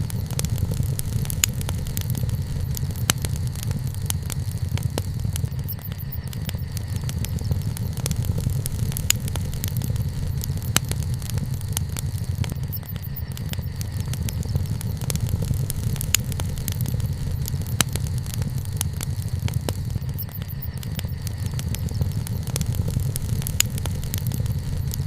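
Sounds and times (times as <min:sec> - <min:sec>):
fire crackles and pops: 0:00.0 - 0:25.0
wood fire rumble: 0:00.0 - 0:25.0.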